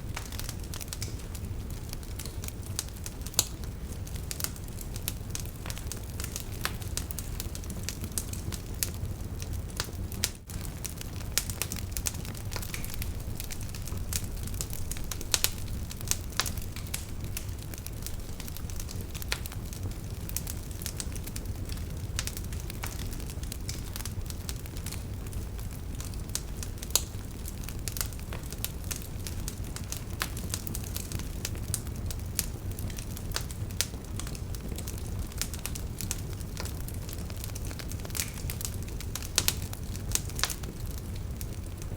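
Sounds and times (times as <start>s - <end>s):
fire crackling and popping: 0.0s - 41.9s
fire low rumble: 0.0s - 41.9s.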